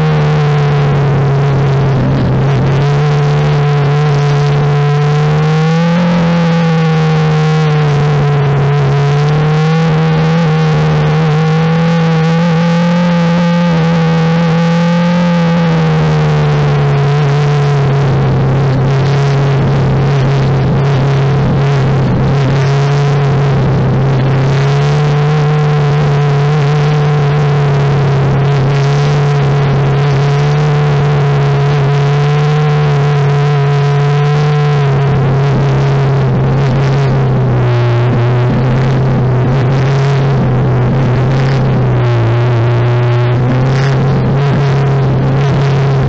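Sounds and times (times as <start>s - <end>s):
race car engine at steady revs: 0.0s - 46.0s.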